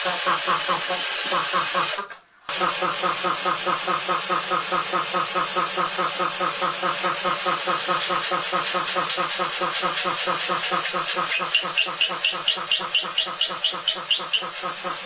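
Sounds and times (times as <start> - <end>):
air compressor pumping: 0.0 - 15.0.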